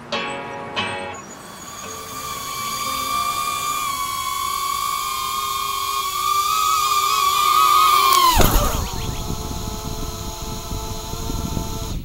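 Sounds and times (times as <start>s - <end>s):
drone propellers whining: 1.2s - 12.0s.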